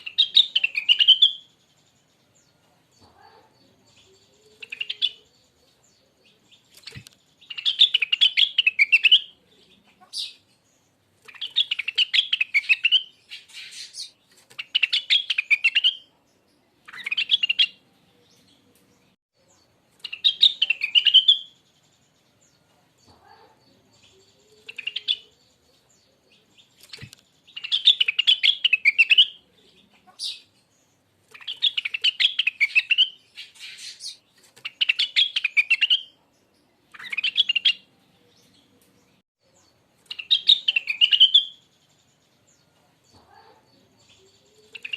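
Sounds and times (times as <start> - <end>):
bird singing warbled phrases: 0.0 - 44.9.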